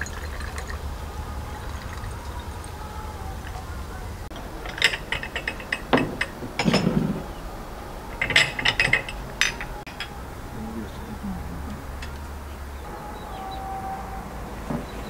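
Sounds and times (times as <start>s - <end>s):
tea glasses and spoons clinking: 0.0s - 13.7s.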